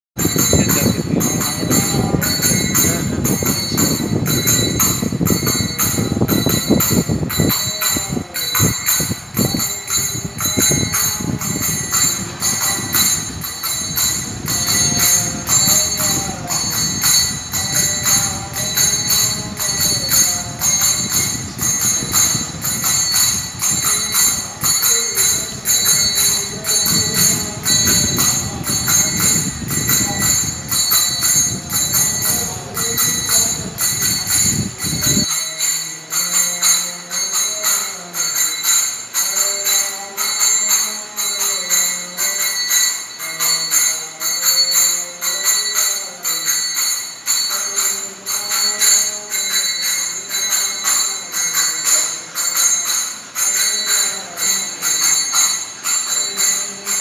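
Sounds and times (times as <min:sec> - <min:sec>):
jingling metal percussion: 0:00.2 - 0:57.0
person singing: 0:00.2 - 0:57.0.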